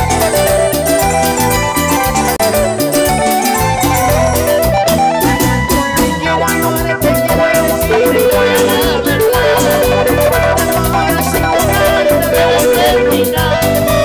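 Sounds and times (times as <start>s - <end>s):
latin dance band over loudspeakers: 0.0s - 14.0s.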